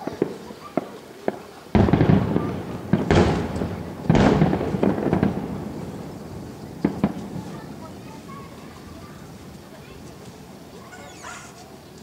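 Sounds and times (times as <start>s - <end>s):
rumbling crackle: 0.0s - 10.9s
fireworks booming: 0.0s - 11.5s
sharp fireworks pops: 0.0s - 12.0s.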